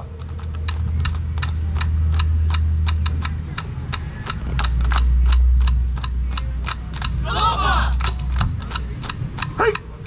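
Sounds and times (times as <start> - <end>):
steady low rumble: 0.0 - 10.0
sharp percussion beats: 0.7 - 10.0.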